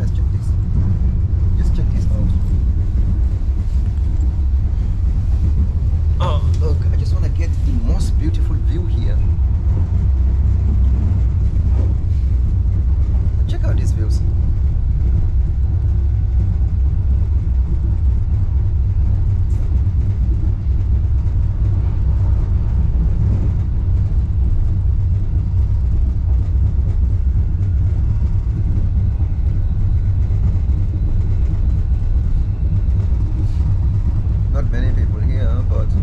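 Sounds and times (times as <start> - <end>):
suspension railway car rumble: 0.0 - 36.0.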